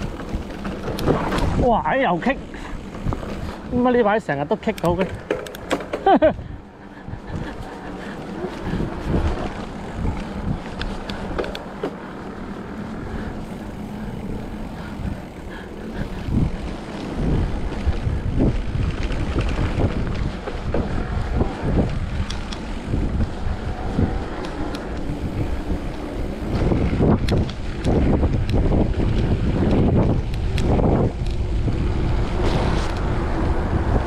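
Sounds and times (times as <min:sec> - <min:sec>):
bike clicks and rattles: 0:00.0 - 0:34.0
tyres rumbling on rough ground: 0:00.0 - 0:34.0
wind buffeting microphone: 0:00.0 - 0:34.0.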